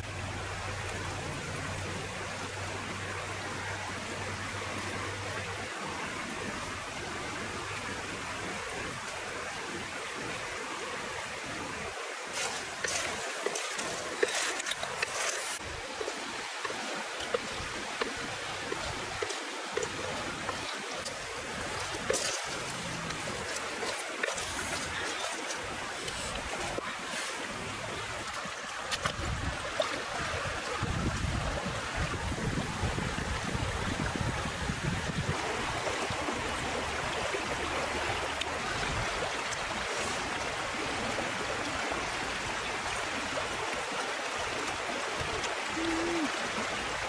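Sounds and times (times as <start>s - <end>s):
stream rushing: 0.0s - 47.0s.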